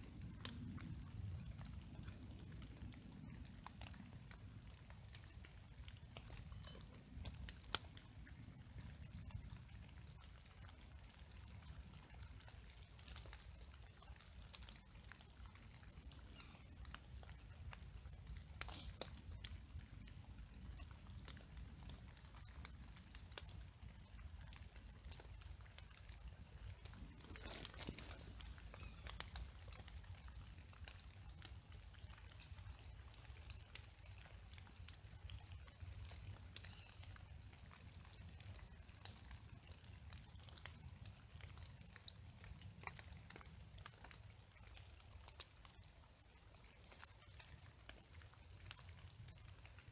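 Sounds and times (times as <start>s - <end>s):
light rain ticking: 0.0s - 49.9s.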